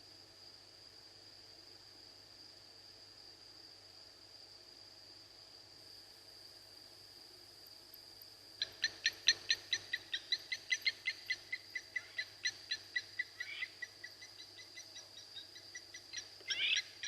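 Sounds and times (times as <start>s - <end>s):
high-pitched insect whine: 0.0s - 17.0s.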